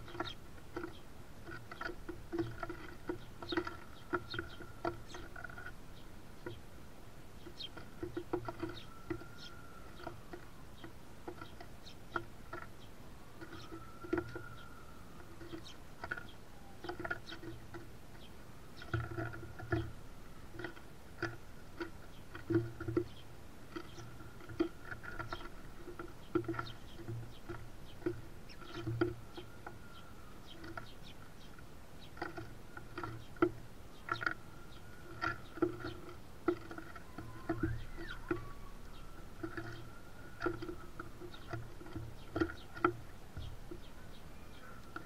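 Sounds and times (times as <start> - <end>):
birds cracking seeds: 0.0 - 45.0
faint steady hum: 0.0 - 45.0.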